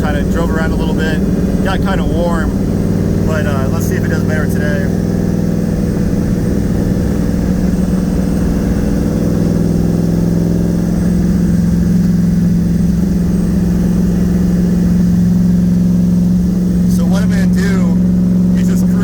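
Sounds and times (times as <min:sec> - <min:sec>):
car engine cruising: 0:00.0 - 0:19.0.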